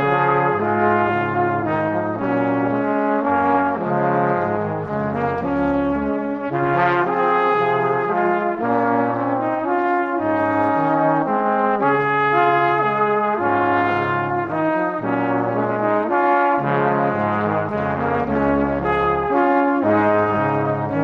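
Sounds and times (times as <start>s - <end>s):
brass-like background music: 0.0s - 21.0s.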